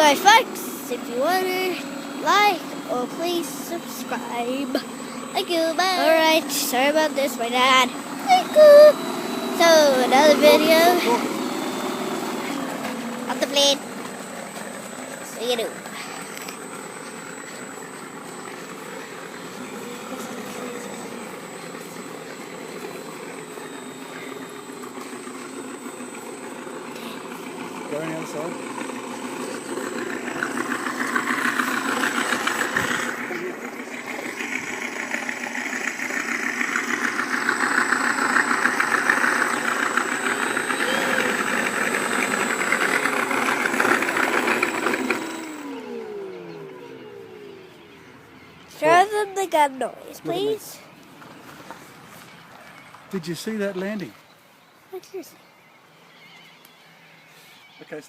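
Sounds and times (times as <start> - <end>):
simulated aircraft engine from speaker: 0.0 - 48.1, 48.7 - 50.9
falling wind-down tone: 0.0 - 50.8.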